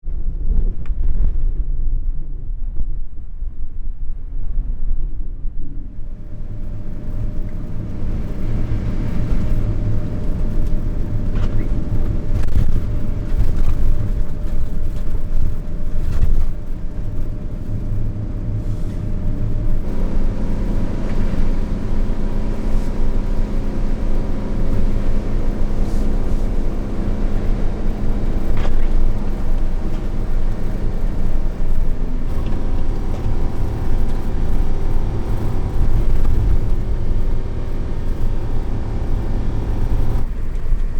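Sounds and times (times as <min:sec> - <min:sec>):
car engine low rumble: 0:00.0 - 0:40.9
engine hum with pitched tones: 0:00.0 - 0:40.9.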